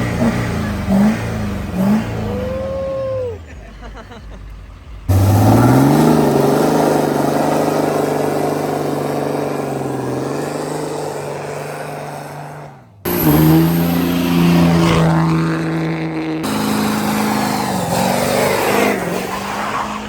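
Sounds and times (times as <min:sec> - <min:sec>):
another engine at high revs: 0:00.0 - 0:20.0
truck engine at high revs: 0:00.0 - 0:20.0.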